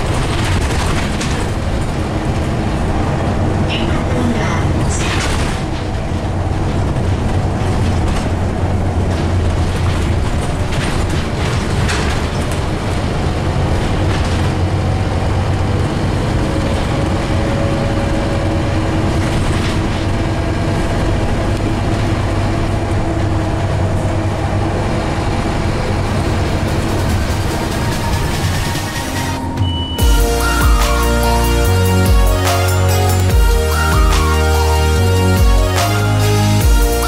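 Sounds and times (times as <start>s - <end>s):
diesel bus engine drone: 0.0s - 37.0s
road noise: 0.0s - 37.0s.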